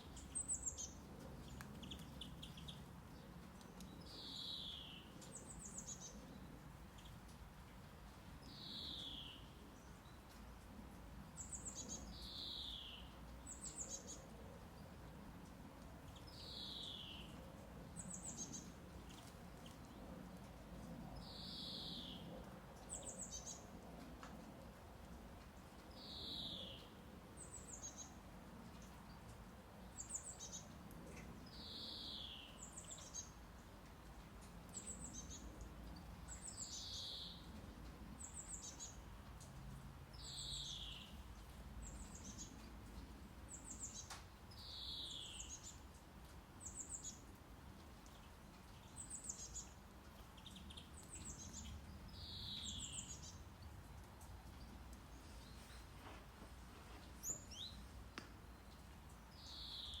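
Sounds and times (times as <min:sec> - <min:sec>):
faint birdsong chirps: 0:00.0 - 1:00.0.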